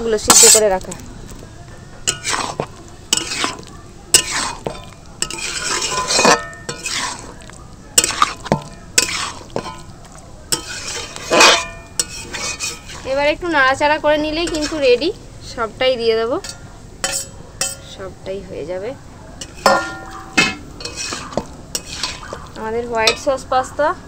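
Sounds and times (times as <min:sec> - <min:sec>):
metal spatula scraping a pan: 0:00.1 - 0:00.8, 0:02.0 - 0:15.2, 0:16.2 - 0:18.0, 0:19.4 - 0:23.4.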